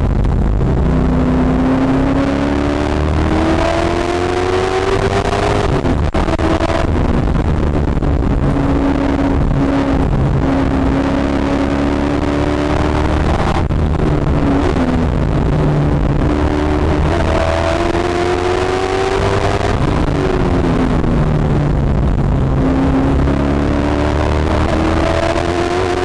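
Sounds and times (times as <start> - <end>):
race car engine at high revs: 0.0 - 26.0.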